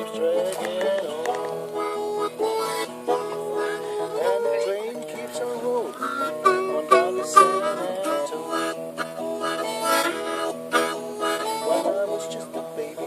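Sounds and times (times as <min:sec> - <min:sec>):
guitar strumming: 0:00.0 - 0:13.0
harmonica playing: 0:00.0 - 0:13.0.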